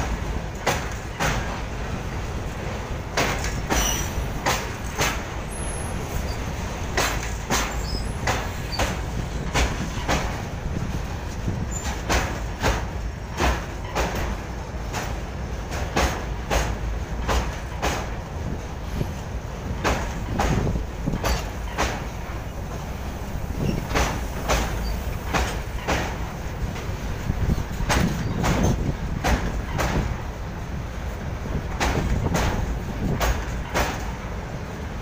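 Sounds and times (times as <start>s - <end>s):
freight wagons rumbling: 0.0s - 35.0s
train wheels clacking on rails: 0.0s - 35.0s.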